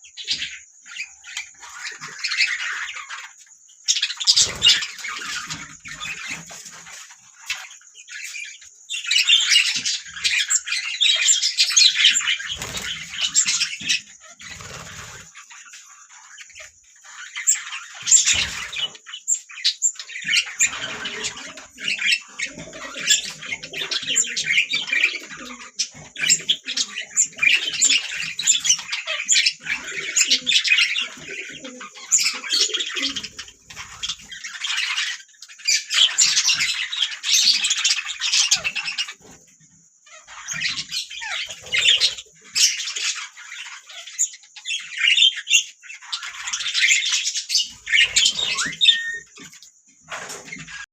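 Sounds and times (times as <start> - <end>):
budgerigars chirping and squawking: 0.0 - 50.8.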